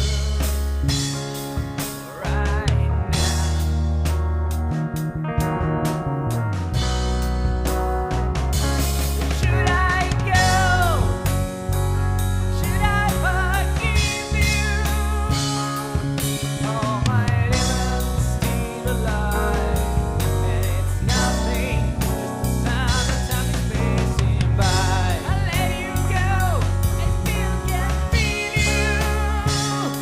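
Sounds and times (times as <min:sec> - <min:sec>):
lead melody with bends: 0:00.0 - 0:30.0
rock band playing: 0:00.0 - 0:30.0.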